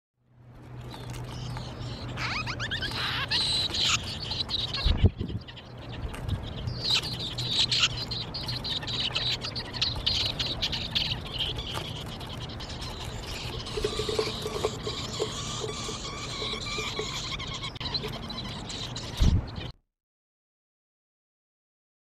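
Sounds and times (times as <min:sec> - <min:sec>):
nestlings begging chirps: 0:00.6 - 0:19.8.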